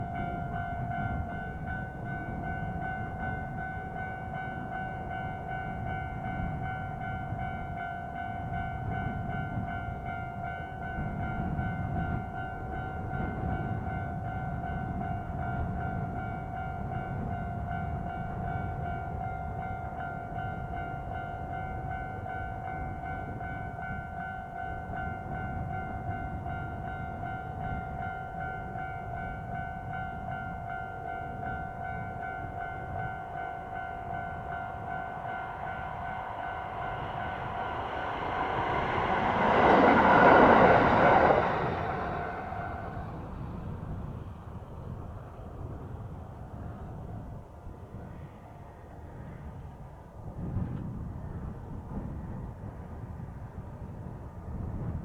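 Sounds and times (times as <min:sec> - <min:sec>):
high-pitched train whine: 0:00.0 - 0:52.9
electric train running rumble: 0:00.0 - 0:55.0.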